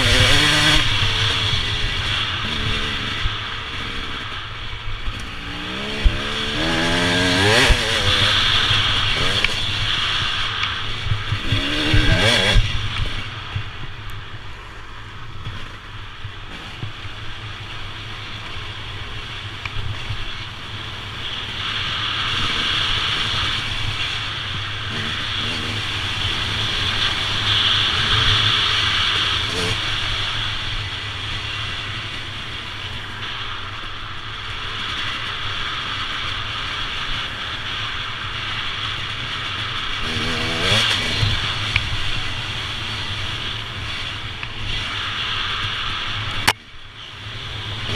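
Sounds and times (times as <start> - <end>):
motorcycle engine revving: 0.0 - 47.9
wind and road noise: 0.0 - 47.9.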